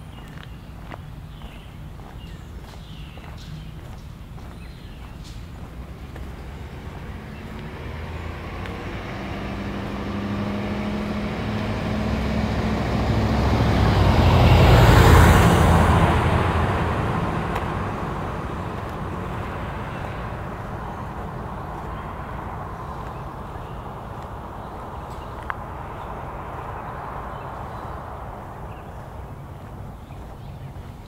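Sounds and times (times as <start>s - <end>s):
car driving past: 2.2s - 31.0s.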